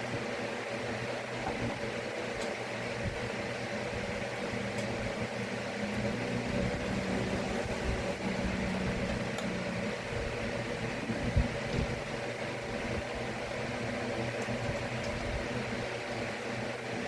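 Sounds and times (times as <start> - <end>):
fan-like mechanical hum: 0.0 - 17.0.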